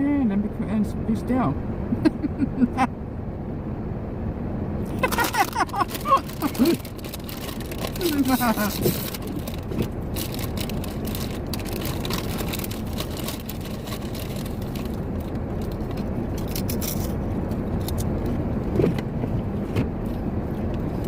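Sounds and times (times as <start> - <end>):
truck engine idling: 1.6 - 18.7.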